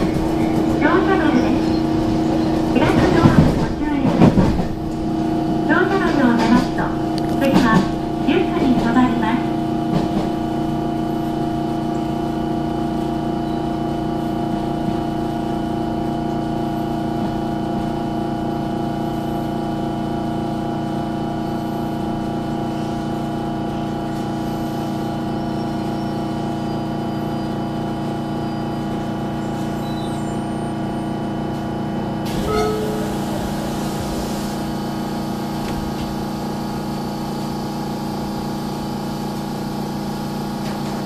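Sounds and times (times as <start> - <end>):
electric train hum: 0.0 - 41.0.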